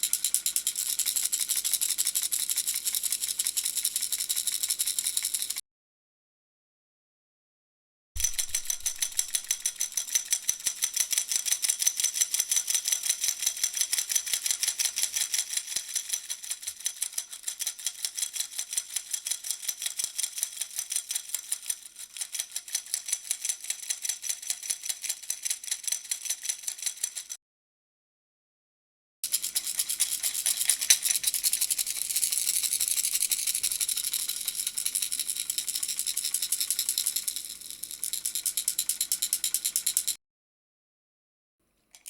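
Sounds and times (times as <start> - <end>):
baby rattle shaken: 0.0 - 5.6, 8.2 - 27.2, 29.2 - 40.1.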